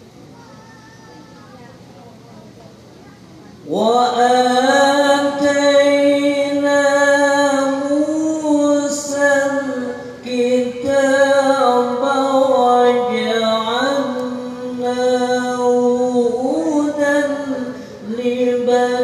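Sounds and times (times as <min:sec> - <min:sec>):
man chanting through microphone: 0:03.6 - 0:19.0.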